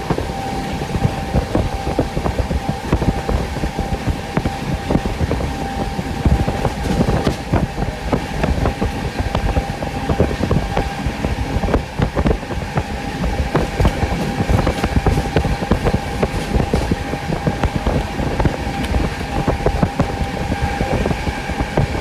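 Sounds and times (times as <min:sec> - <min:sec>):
track clacks and knocks: 0:00.0 - 0:22.0
train wheels rumbling on rail: 0:00.0 - 0:22.0.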